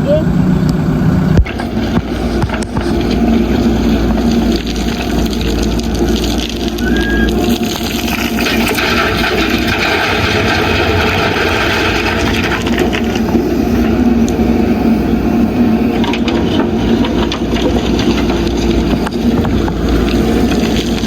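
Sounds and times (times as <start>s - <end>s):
diesel engine under load: 0.0s - 21.0s
gravel clattering against steel bucket: 1.4s - 14.7s, 15.6s - 21.0s.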